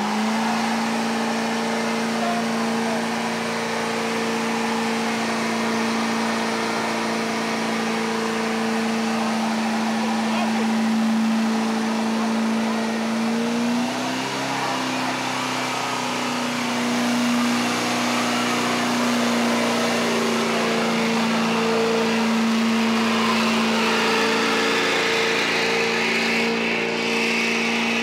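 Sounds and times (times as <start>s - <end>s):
truck engine revving high: 0.0s - 28.0s.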